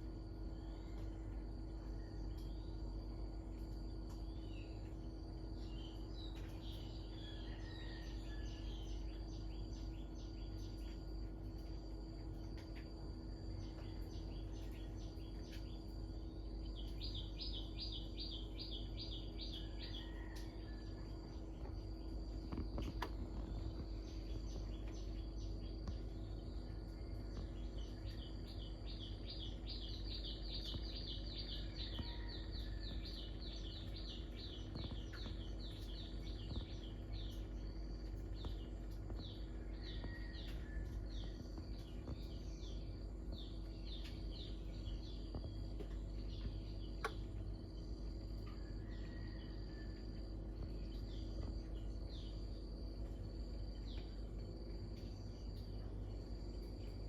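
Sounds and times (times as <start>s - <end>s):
insects trilling: 0.0s - 57.0s
steady low hum: 0.0s - 57.0s.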